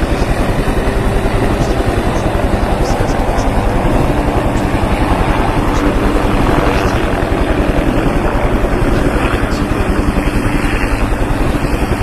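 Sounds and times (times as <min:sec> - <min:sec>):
helicopter engine whine: 0:00.0 - 0:12.0
helicopter rotor beating: 0:00.0 - 0:12.0.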